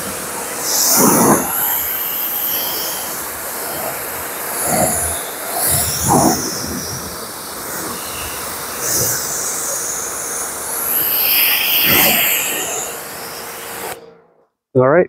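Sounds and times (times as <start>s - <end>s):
water spray hissing on car: 0.0s - 14.0s.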